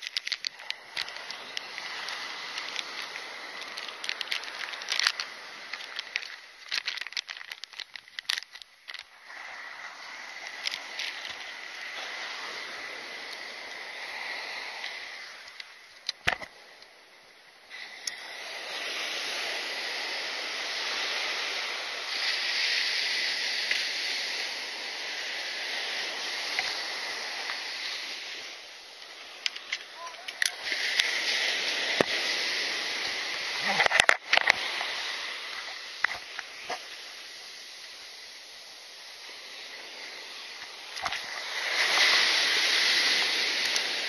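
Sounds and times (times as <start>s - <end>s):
surf washing up beach: 0.0s - 44.0s.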